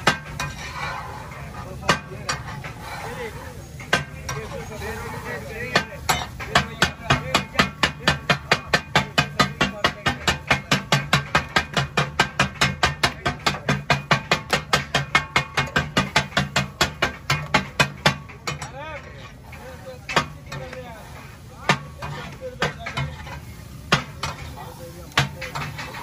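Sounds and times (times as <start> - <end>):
metal spatulas striking griddle: 0.0 - 26.0.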